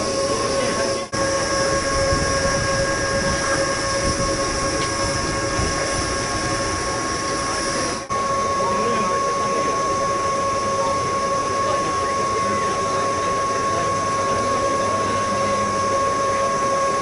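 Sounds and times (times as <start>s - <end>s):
electric train equipment hum and whine: 0.0s - 17.0s.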